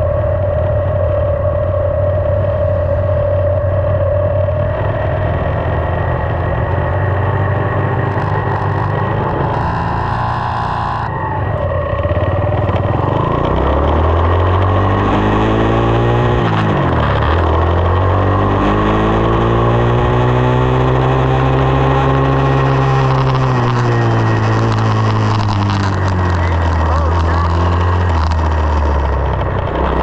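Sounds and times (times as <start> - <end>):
dirt bike engine revving: 4.6 - 30.0.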